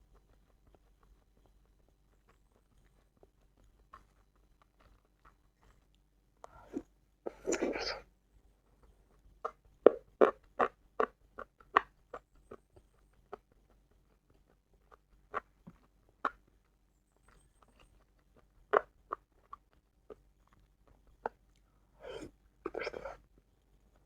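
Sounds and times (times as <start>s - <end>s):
person chewing food: 0.1s - 8.1s, 8.8s - 24.0s.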